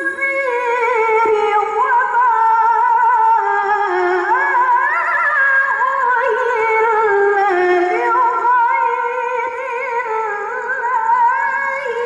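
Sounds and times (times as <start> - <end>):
woman chanting into a microphone: 0.0 - 12.0.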